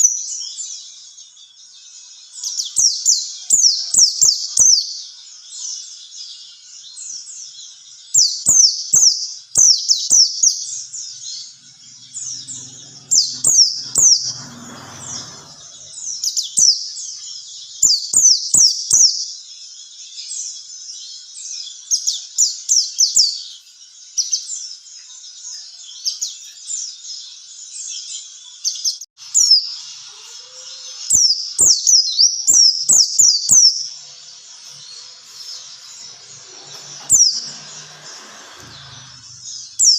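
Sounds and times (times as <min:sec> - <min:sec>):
bird high chirping song: 0:00.0 - 0:39.9.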